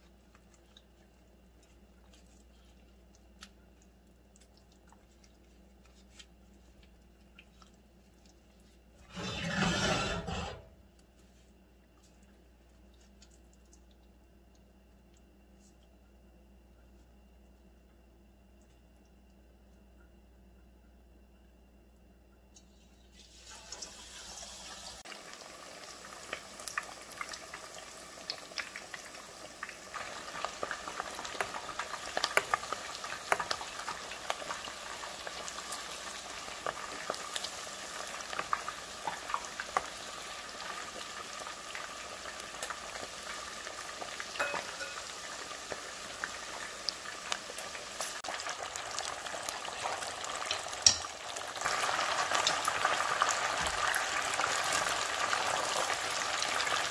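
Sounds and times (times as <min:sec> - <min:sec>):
chicken deep-frying in oil: 0:00.0 - 0:16.2, 0:22.6 - 0:56.9.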